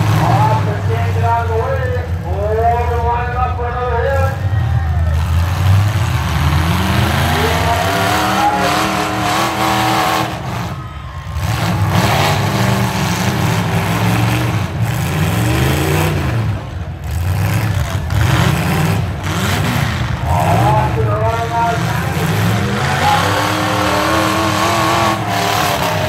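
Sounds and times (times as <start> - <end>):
pickup truck engines revving: 0.0 - 26.0.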